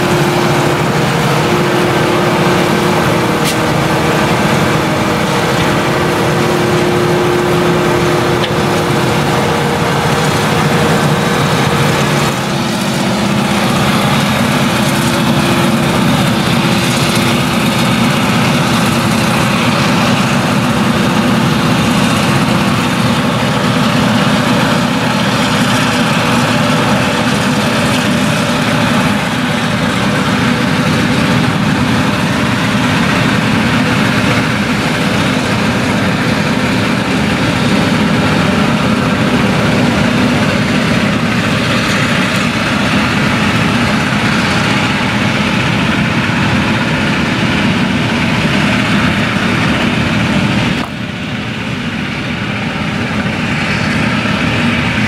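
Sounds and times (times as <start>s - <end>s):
forage harvester engine under load: 0.0s - 55.0s
tractor engine: 0.0s - 55.0s.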